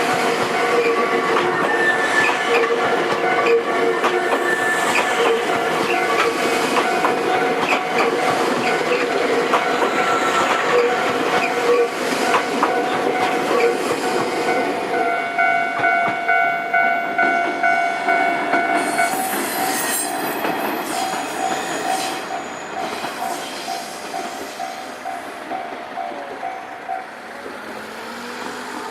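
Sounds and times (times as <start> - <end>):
crossing warning bell ringing: 0.0 - 28.2
train running noise: 0.0 - 28.9.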